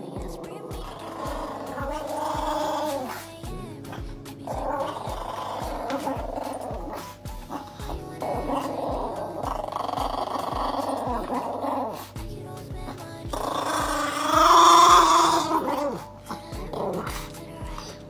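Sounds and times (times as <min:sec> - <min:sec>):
dogs growling: 0:00.0 - 0:03.2, 0:04.5 - 0:12.2, 0:13.3 - 0:17.9
background music with steady beat: 0:00.0 - 0:18.0.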